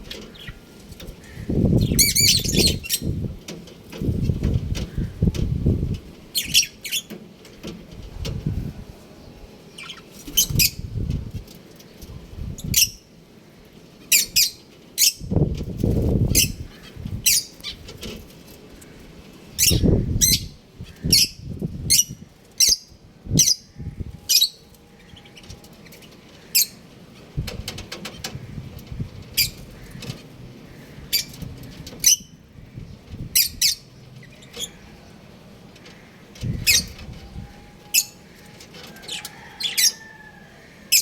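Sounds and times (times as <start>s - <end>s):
birds chirping and squawking: 0.0s - 3.3s, 4.0s - 7.2s, 9.3s - 11.2s, 14.0s - 41.0s.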